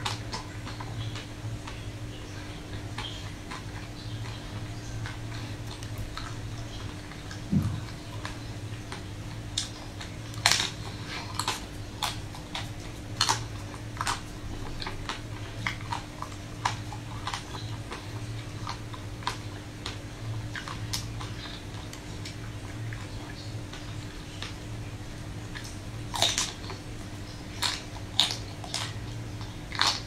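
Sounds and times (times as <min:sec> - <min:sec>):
chewing: 0:00.0 - 0:30.0
steady low hum: 0:00.0 - 0:30.0.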